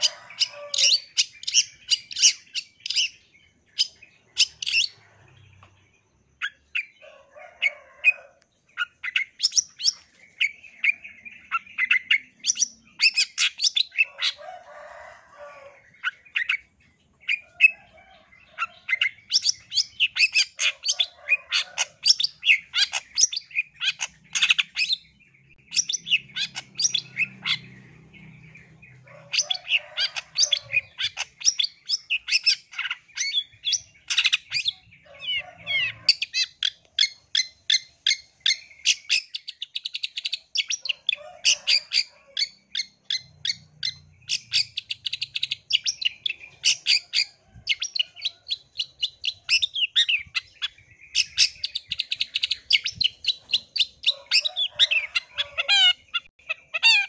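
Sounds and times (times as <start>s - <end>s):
bird song scratchy chattering: 0.0s - 7.0s, 8.6s - 15.1s, 15.8s - 57.0s.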